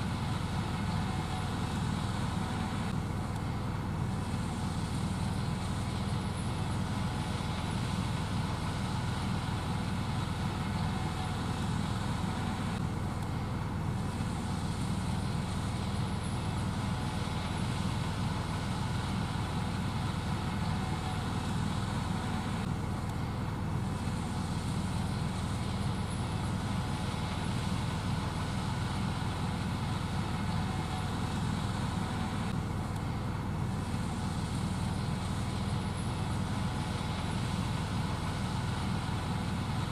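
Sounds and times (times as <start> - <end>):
combine machinery drone: 0.0 - 39.9.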